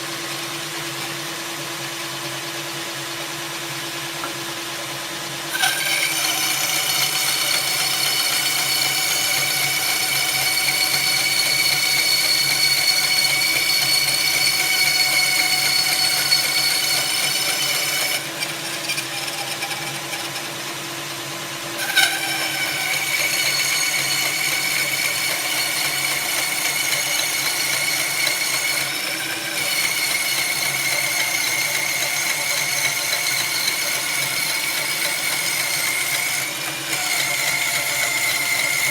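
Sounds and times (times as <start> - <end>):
electric drill whining: 5.5 - 20.6, 21.7 - 38.9.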